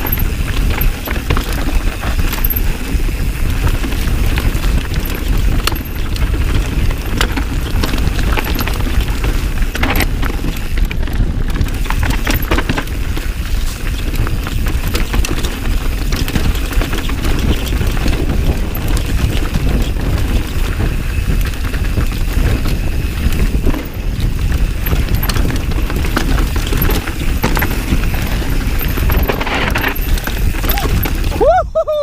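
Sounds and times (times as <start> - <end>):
bike rattles and knocks: 0.0 - 31.6
bike tyres rolling over dirt and rocks: 0.0 - 31.6.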